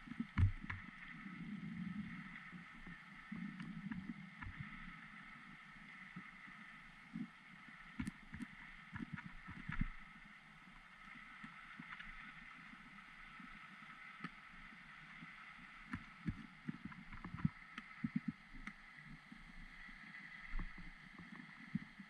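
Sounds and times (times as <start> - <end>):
muffled water noise: 0.0 - 22.0.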